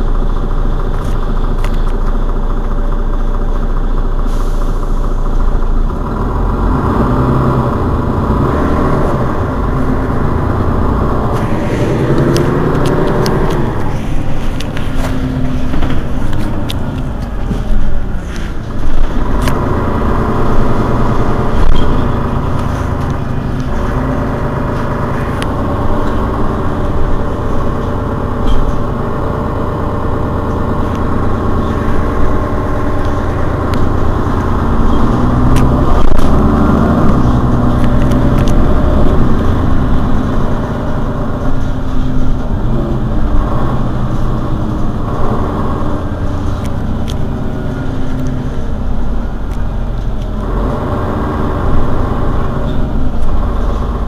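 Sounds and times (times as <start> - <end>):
bus diesel engine idling: 0.0 - 54.0.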